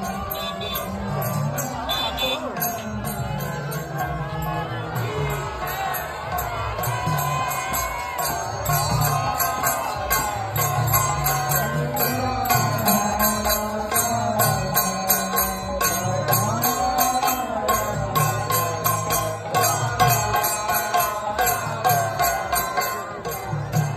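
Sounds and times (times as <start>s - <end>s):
jingling bells: 0.0s - 23.9s.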